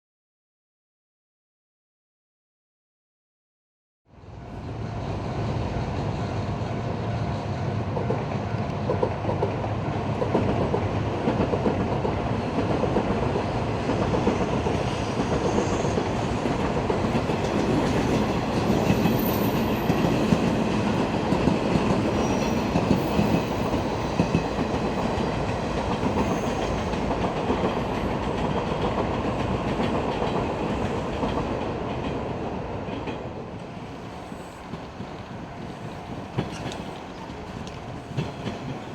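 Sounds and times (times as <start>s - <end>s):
electric train running past: 4.2s - 38.9s.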